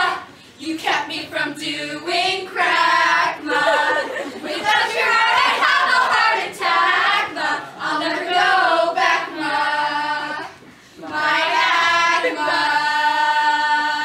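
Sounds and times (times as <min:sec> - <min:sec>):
young voices singing together: 0:00.0 - 0:14.0.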